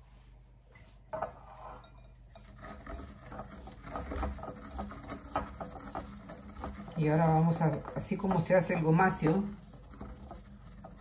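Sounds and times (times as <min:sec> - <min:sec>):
pestle grinding in ceramic mortar: 0:01.2 - 0:11.0.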